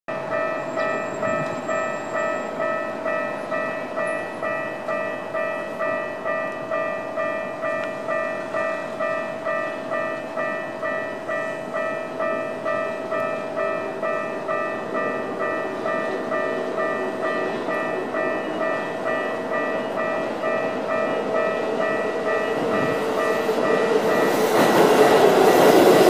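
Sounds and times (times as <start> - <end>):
level crossing warning bell ringing: 0.1 - 26.0.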